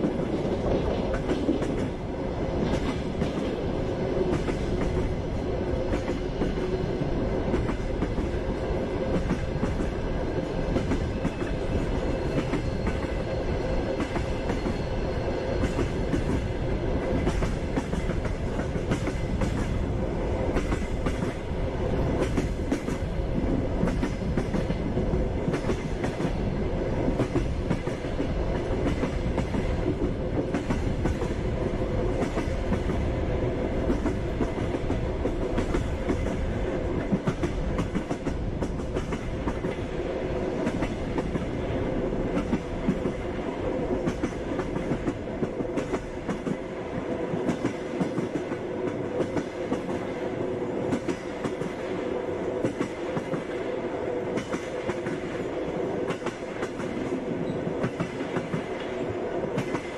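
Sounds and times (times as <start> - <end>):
train rumble: 0.0 - 59.9
train wheels clacking on rails: 0.0 - 59.9.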